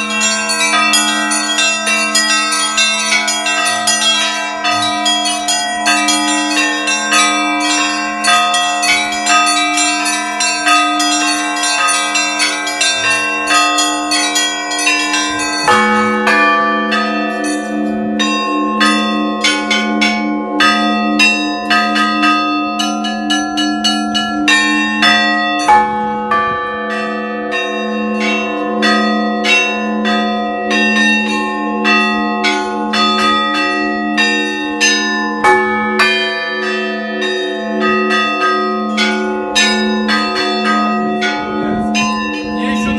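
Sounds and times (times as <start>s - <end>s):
heavy low bell struck: 0.0s - 42.9s
hum of larger bells: 0.0s - 42.9s
small high bells ringing: 0.0s - 42.9s.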